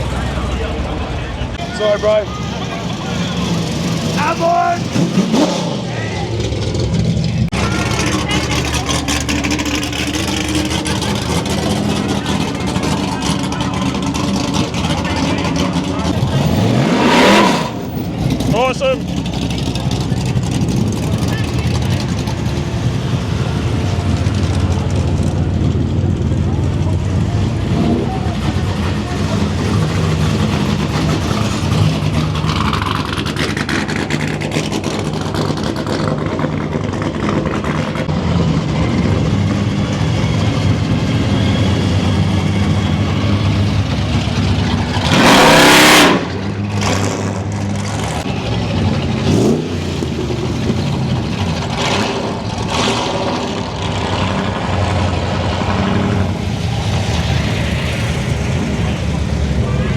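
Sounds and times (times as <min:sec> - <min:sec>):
car engine revving: 0:00.0 - 0:59.9
car engines running: 0:00.0 - 0:59.9.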